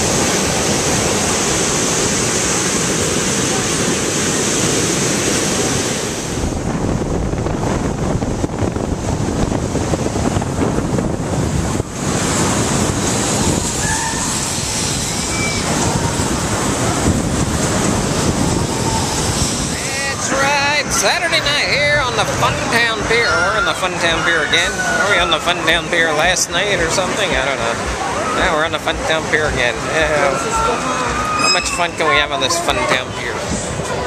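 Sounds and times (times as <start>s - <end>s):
wind on microphone: 0.0s - 28.1s, 29.0s - 34.0s
ocean surf breaking: 0.0s - 34.0s.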